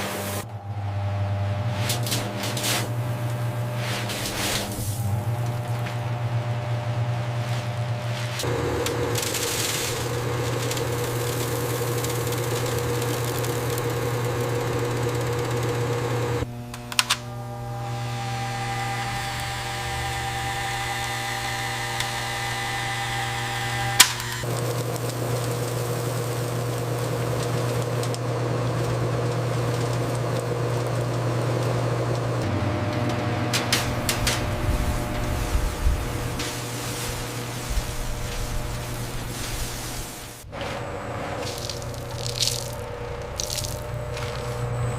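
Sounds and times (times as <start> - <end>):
factory machinery humming: 0.0 - 44.9.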